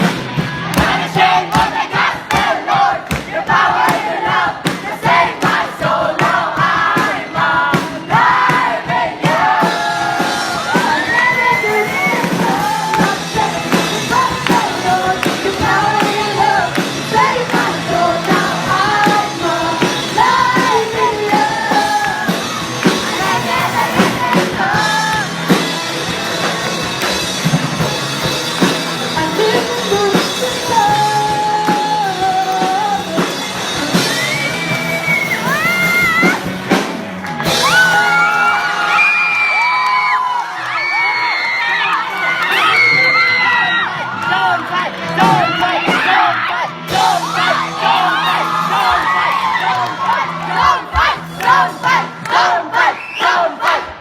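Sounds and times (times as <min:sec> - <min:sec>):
crowd yelling and shouting: 0:00.0 - 0:54.0
live band with singers: 0:00.0 - 0:54.0.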